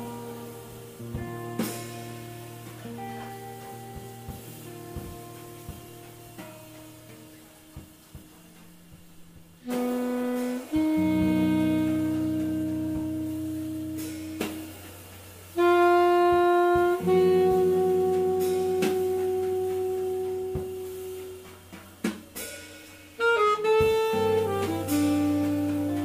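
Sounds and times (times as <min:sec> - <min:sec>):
low guitar notes: 0:00.0 - 0:22.5, 0:23.2 - 0:26.0
alto saxophone: 0:00.0 - 0:26.0
drum and cymbal strokes: 0:00.0 - 0:26.0.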